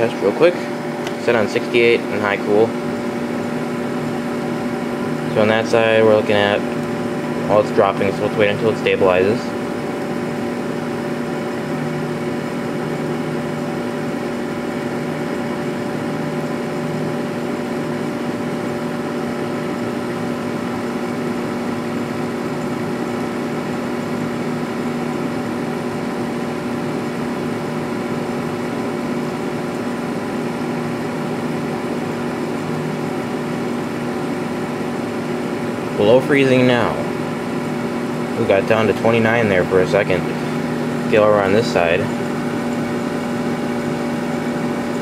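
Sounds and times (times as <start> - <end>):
air conditioner humming: 0.0 - 45.0.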